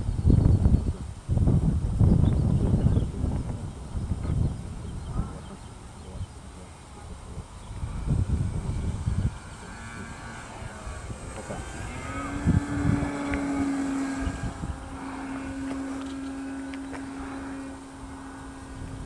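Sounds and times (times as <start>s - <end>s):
steady motor hum: 0.0s - 19.0s
wind rumbling on microphone: 0.0s - 19.0s.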